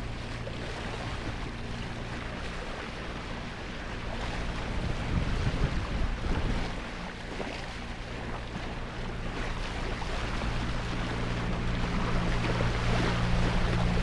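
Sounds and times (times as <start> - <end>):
low hum: 0.0 - 14.0
water rushing along hull: 0.0 - 14.0
wind buffeting microphone: 0.0 - 14.0.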